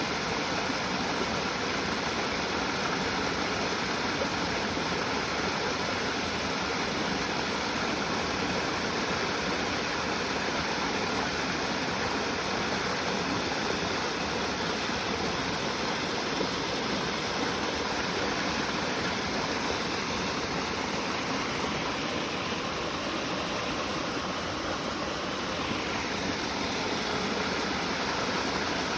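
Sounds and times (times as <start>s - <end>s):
small stream flowing: 0.0s - 28.9s.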